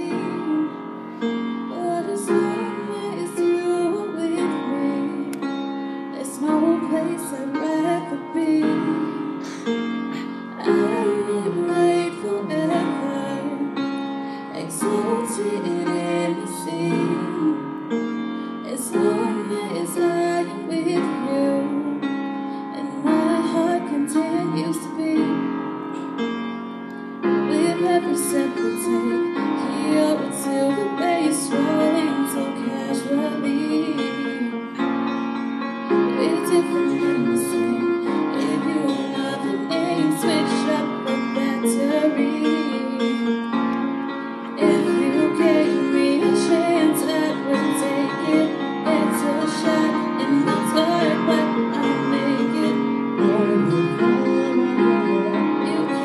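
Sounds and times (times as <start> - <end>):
girl singing into a microphone: 0.0 - 1.0, 1.6 - 5.5, 6.1 - 25.5, 27.5 - 34.8, 36.1 - 43.4, 44.6 - 56.0
grand piano: 0.0 - 56.0.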